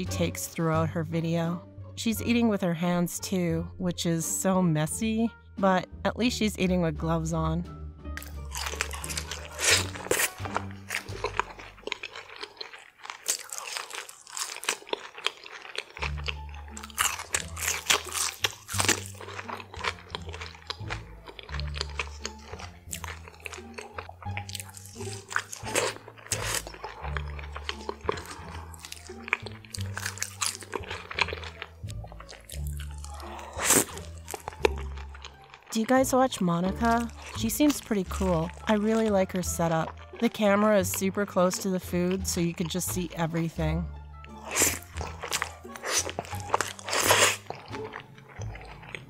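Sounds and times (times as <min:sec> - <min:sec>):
soft background music: 0:00.0 - 0:49.0
crunchy chewing of fries: 0:08.2 - 0:43.6, 0:44.2 - 0:49.0.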